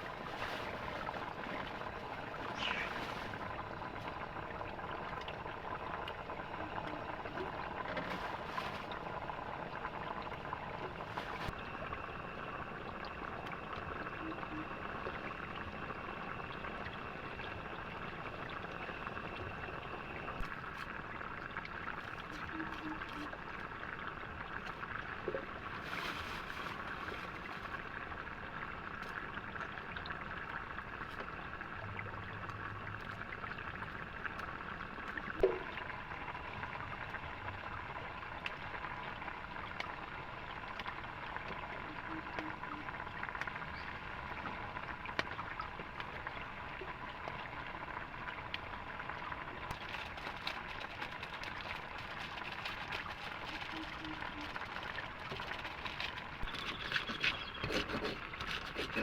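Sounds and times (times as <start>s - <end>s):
rain: 0.0s - 57.7s.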